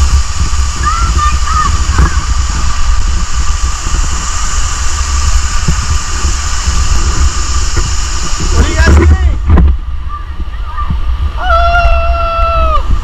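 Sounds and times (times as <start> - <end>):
water buffeting microphone: 0.0 - 13.0
waterfall rushing: 0.0 - 13.0.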